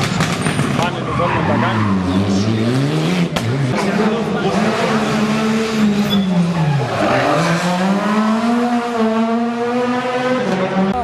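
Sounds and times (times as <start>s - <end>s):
rally car engine passing: 0.1s - 11.0s.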